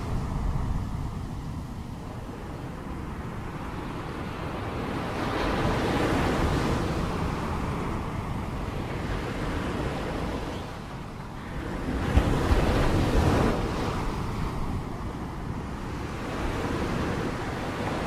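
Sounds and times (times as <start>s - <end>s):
ocean surf washing in: 0.0s - 18.0s
wind: 0.0s - 18.0s.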